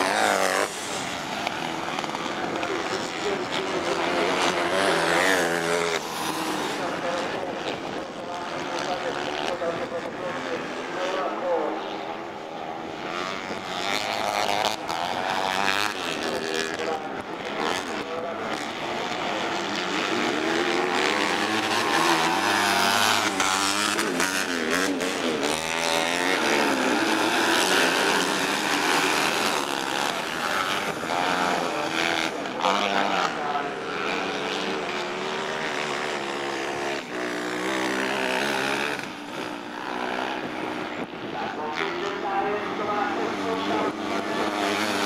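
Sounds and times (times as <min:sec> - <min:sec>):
small engines revving: 0:00.0 - 0:45.0.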